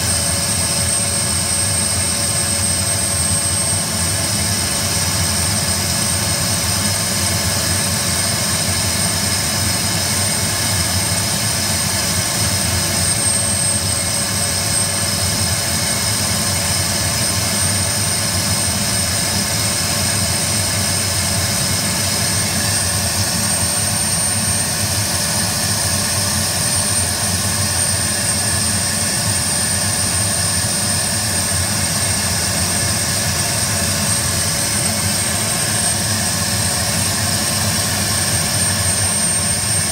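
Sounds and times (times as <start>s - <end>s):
turboprop engine running: 0.0s - 39.9s.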